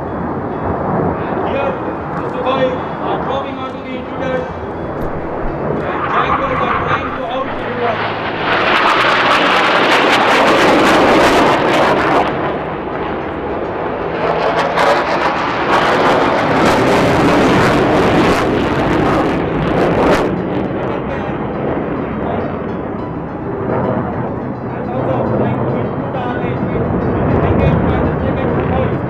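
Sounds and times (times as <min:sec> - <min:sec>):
jet passing overhead: 0:00.0 - 0:29.0.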